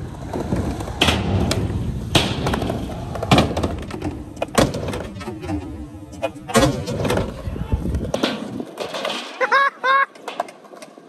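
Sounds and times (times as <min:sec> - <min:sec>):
skateboard clacking on ground: 0:00.0 - 0:11.0
skateboard wheels rolling on concrete: 0:00.0 - 0:11.0.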